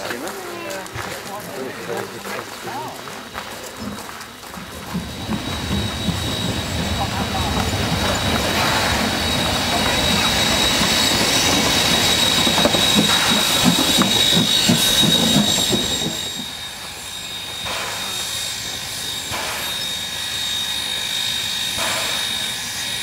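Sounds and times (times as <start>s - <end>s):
steam locomotive running: 0.0s - 23.0s
train wheels knocking over rail joints: 0.0s - 23.0s.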